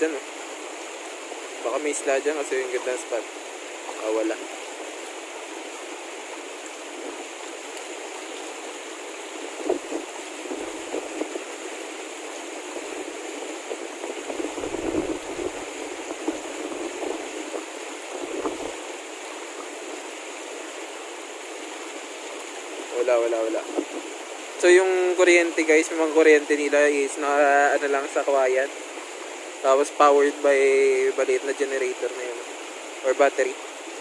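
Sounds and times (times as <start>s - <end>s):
river rushing over rocks: 0.0s - 34.0s.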